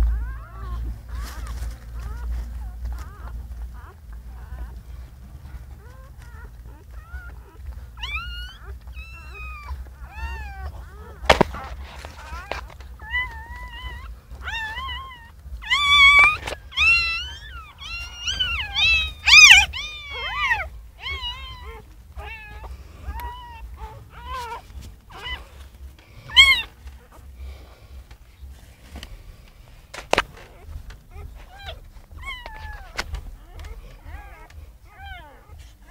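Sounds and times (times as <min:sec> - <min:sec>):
puppies squealing and crying: 0:00.0 - 0:35.9.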